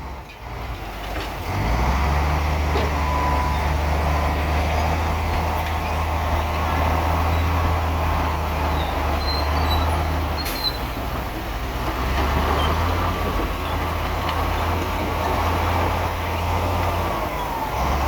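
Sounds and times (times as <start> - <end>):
bulldozer diesel engine drone: 0.0 - 18.0.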